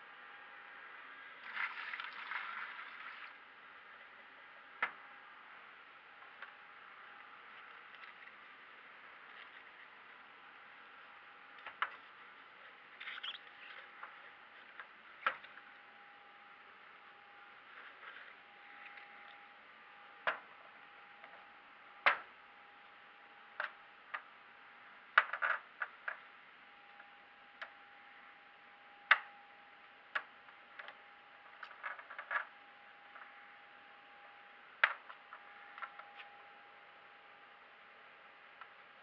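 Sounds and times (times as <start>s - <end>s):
faint steady whine: 0.0s - 39.0s.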